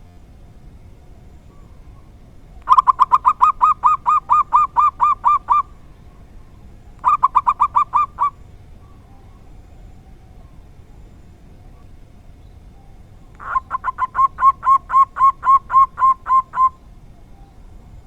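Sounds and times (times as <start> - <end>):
dove cooing: 0.0 - 11.9, 12.7 - 18.0.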